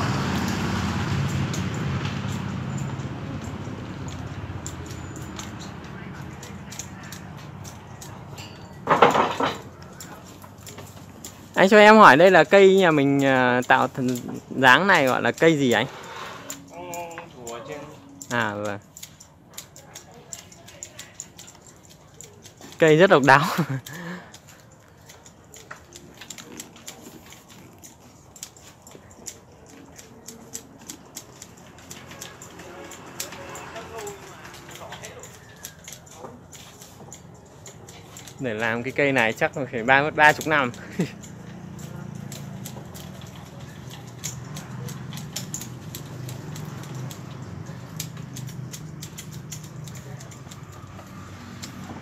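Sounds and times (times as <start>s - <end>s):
hand shears snipping leaves: 0.0s - 52.0s.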